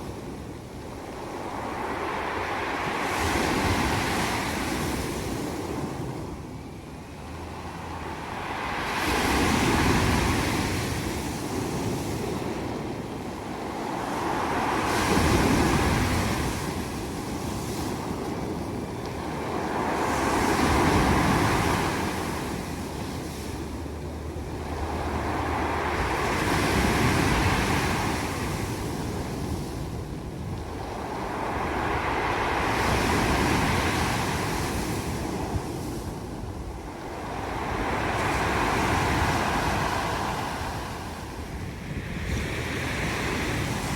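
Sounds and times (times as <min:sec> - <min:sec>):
waves breaking on pebble beach: 0:07.2 - 0:43.9.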